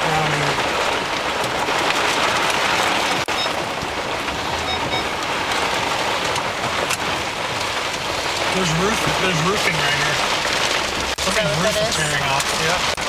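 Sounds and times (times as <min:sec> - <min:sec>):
heavy rain beating on car: 0:00.0 - 0:13.0.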